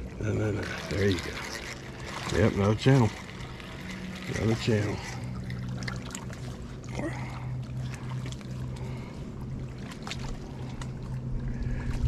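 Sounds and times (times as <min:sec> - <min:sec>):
fish splashing in water: 0:00.0 - 0:12.0
low hum: 0:00.0 - 0:12.0
water lapping: 0:00.0 - 0:12.0.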